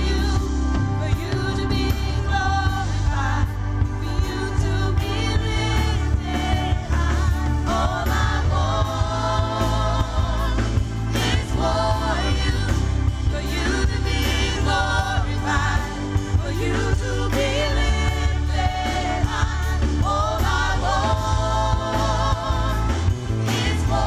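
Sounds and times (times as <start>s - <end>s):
band with bass and drums: 0.0s - 24.0s
group singing gospel song: 0.0s - 24.0s.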